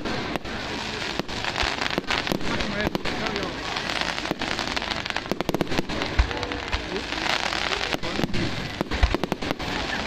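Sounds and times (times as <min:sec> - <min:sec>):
dull fireworks booms: 0:00.0 - 0:10.0
fireworks crackling: 0:00.0 - 0:10.0.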